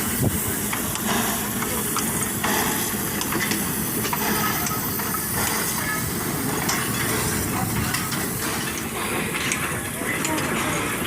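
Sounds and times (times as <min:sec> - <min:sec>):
train rumbling on tracks: 0:00.0 - 0:11.0.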